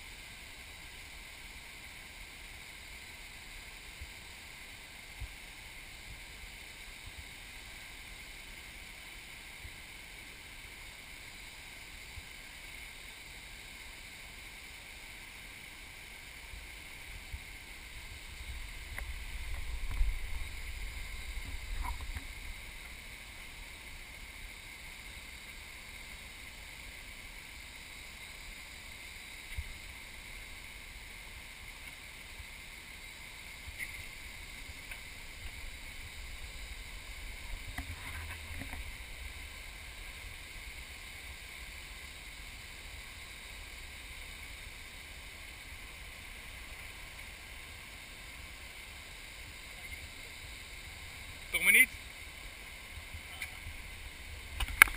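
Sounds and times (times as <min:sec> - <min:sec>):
water cascading over rocks: 0:00.0 - 0:54.9.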